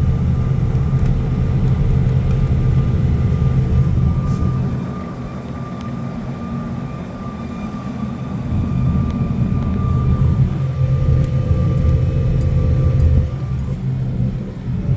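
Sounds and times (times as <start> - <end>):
road and drivetrain rumble: 0.0 - 14.9
steady high whine: 0.0 - 14.9.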